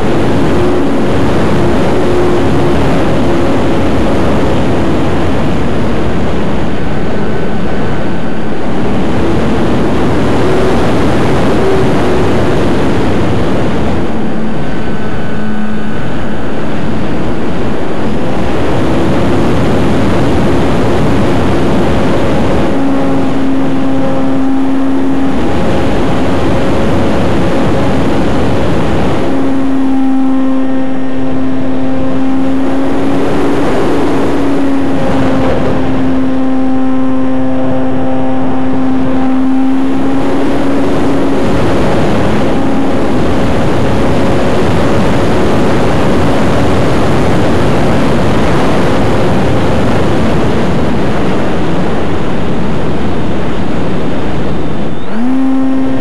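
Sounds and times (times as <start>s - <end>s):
model airplane motor drone: 0.0s - 56.0s
wind rush on microphone: 0.0s - 56.0s.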